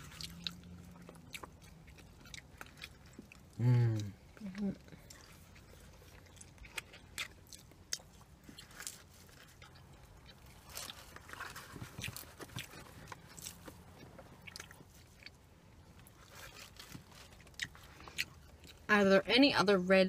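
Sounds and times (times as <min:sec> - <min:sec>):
chewing and crunching food: 0:00.0 - 0:19.2
low steady hum: 0:00.0 - 0:20.0.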